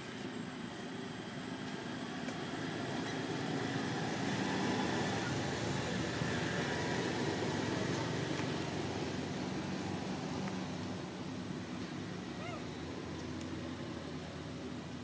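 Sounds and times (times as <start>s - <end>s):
faint hum: 0.0s - 15.0s
rumble and hiss: 0.0s - 15.0s.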